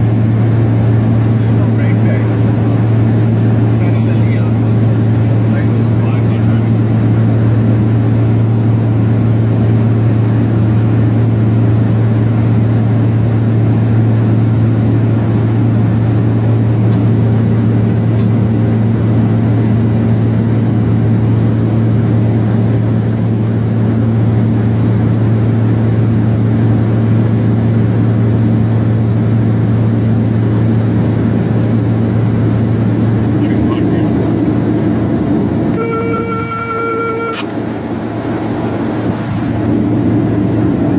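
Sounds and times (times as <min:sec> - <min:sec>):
aircraft engines droning: 0:00.0 - 0:40.9.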